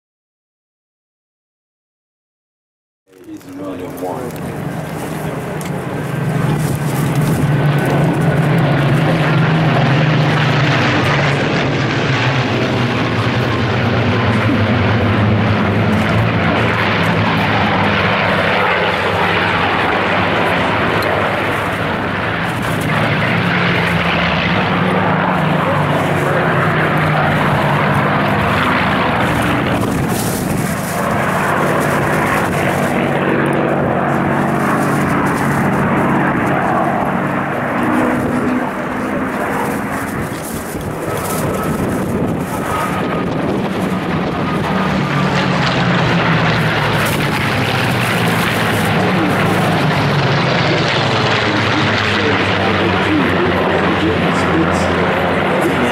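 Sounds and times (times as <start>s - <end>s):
aircraft piston engines droning: 3.1s - 55.9s.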